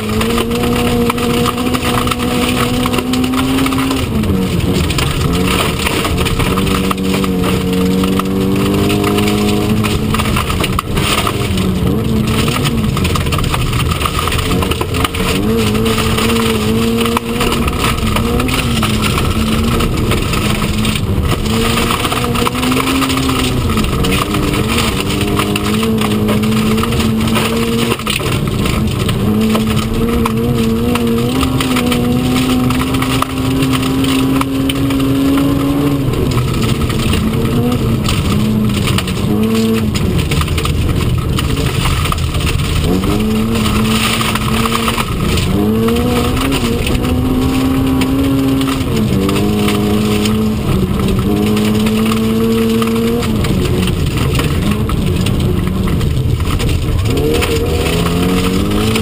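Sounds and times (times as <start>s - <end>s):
car engine revving: 0.0s - 59.0s
tyres on gravel: 0.0s - 59.0s.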